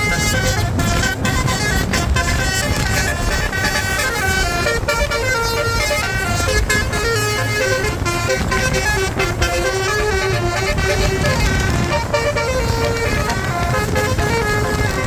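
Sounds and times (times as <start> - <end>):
bus engine and road rumble: 0.0 - 15.0
musical air horn tune: 0.0 - 15.0.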